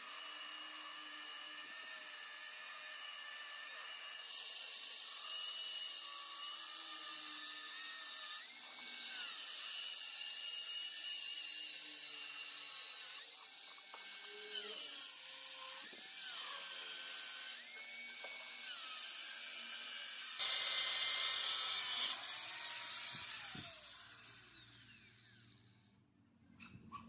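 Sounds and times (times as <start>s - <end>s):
high-speed power tool whining: 0.0s - 25.9s.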